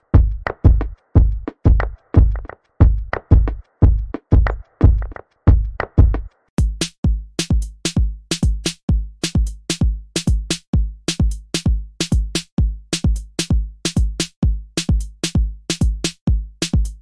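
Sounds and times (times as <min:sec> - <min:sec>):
drum machine kick and bass beat: 0:00.0 - 0:17.0.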